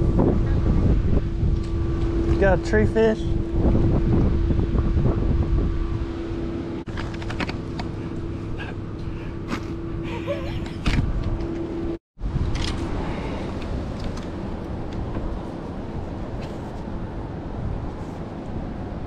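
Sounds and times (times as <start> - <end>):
steady low hum: 0.0 - 19.0
wind rumbling on microphone: 0.0 - 19.0.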